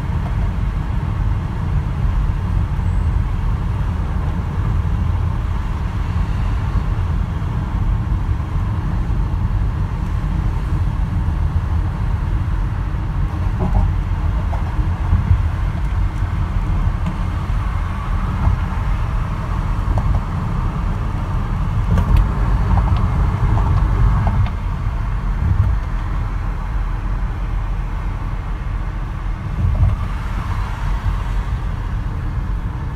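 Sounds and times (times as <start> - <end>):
car tyres and engine rumble: 0.0 - 32.9.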